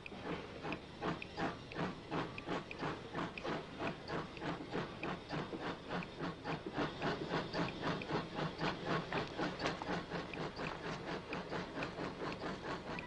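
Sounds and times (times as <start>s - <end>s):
steam hiss: 0.0s - 13.0s
steam train chugging: 0.0s - 13.0s.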